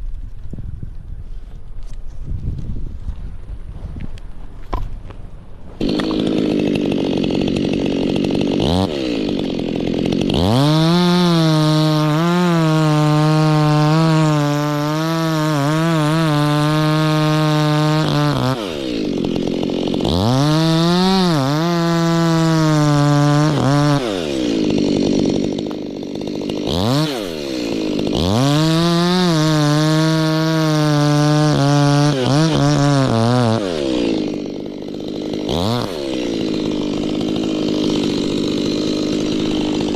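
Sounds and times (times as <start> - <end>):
chainsaw revving and idling: 5.7 - 39.9.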